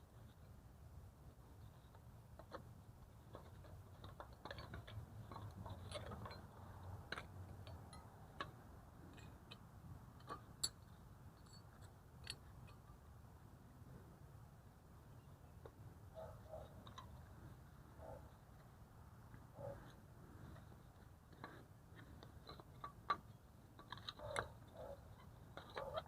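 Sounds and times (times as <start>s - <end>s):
brake parts clicking and tapping: 1.7s - 12.9s, 15.6s - 26.0s.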